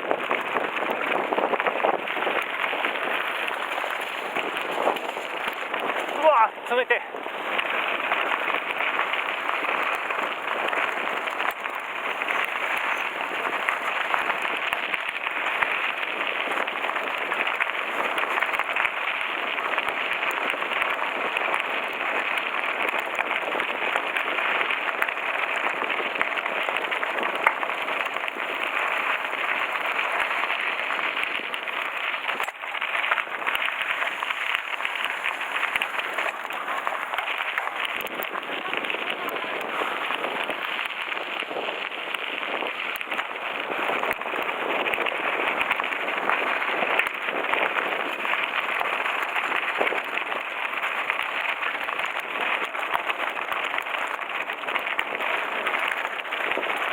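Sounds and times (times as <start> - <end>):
bike tyres on gravel: 0.0 - 56.9.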